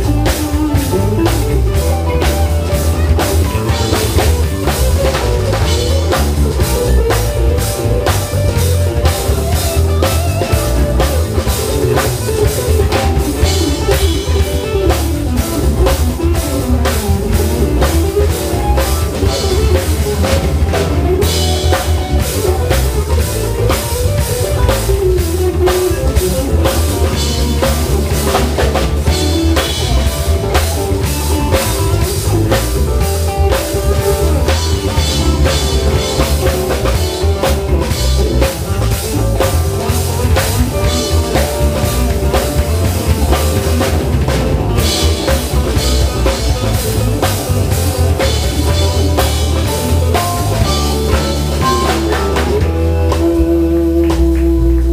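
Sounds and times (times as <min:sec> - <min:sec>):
drum kit strokes: 0:00.0 - 0:54.9
jazz band playing: 0:00.0 - 0:54.9.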